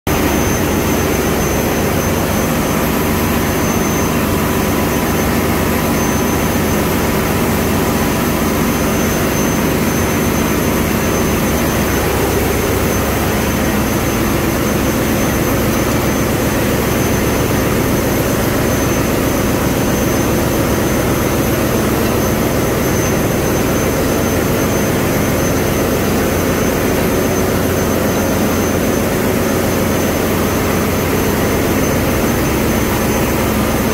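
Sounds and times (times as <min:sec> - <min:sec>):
diesel machinery droning: 0:00.1 - 0:33.9
high whine: 0:00.1 - 0:33.9.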